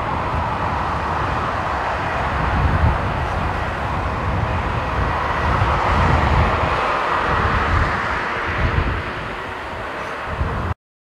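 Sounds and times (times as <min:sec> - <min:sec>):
jet airliner taking off: 0:00.0 - 0:10.8.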